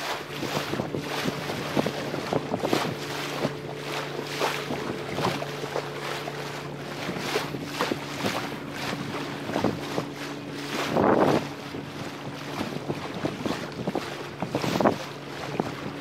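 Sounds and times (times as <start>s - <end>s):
water splashing against boat: 0.0s - 16.0s
wind on microphone: 0.0s - 16.0s.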